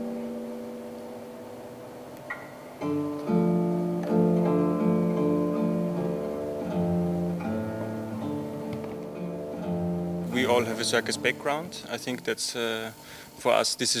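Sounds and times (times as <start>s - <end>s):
acoustic guitar plucked melody: 0.0s - 12.3s.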